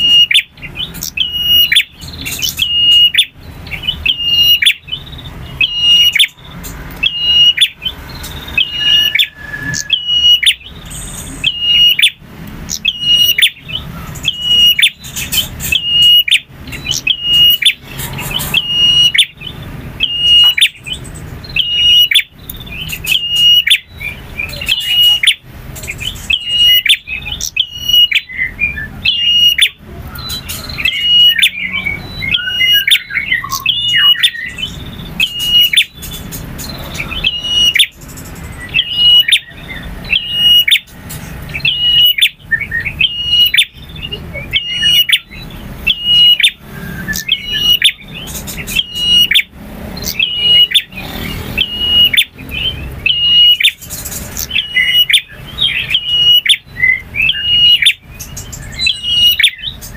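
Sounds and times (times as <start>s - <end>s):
bird singing high chirps: 0.0s - 59.9s.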